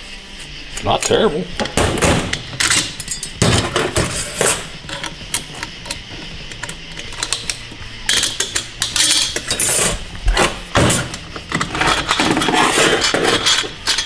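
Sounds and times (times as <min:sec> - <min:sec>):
metal parts clicking and clattering: 0:00.8 - 0:14.0.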